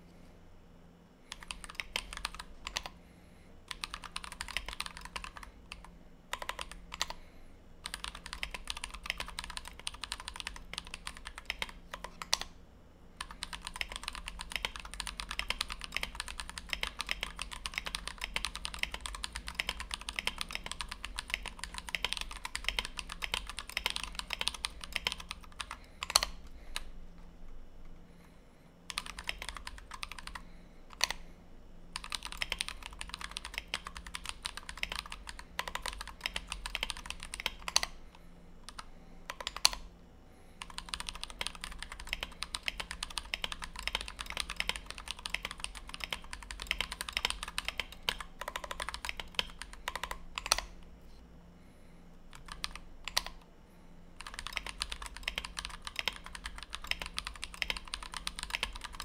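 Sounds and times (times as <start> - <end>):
mechanical keyboard typing: 1.3 - 3.0, 3.7 - 7.2, 7.8 - 12.5, 13.2 - 26.9, 28.9 - 31.2, 32.0 - 38.0, 38.6 - 39.9, 40.6 - 50.7, 52.3 - 53.4, 54.2 - 59.0.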